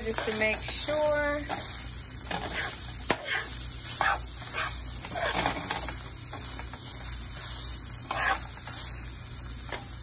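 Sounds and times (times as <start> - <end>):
metal spoon scraping a pan: 0.0 - 6.7, 7.4 - 9.0
meat sizzling: 0.0 - 10.0.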